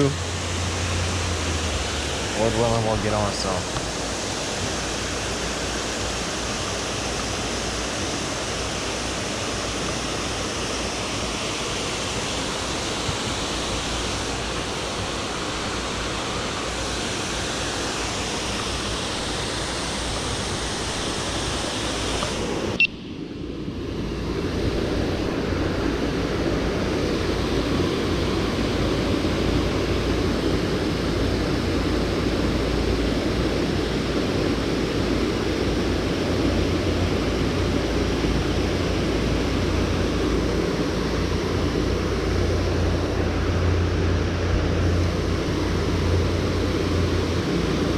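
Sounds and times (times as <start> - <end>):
river water rushing over dam: 0.0 - 47.9.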